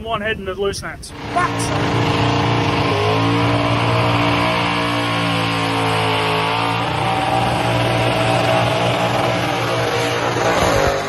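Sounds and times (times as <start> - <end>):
car engine at high revs: 1.1 - 11.0.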